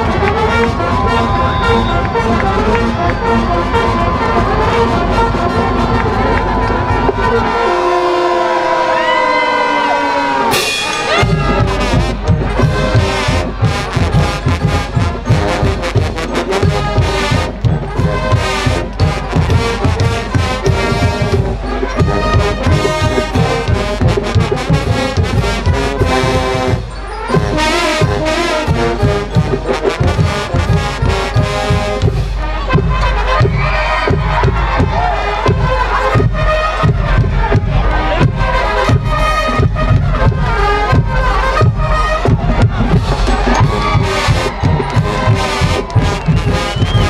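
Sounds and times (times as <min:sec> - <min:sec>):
marching band brass playing: 0:00.0 - 0:47.0.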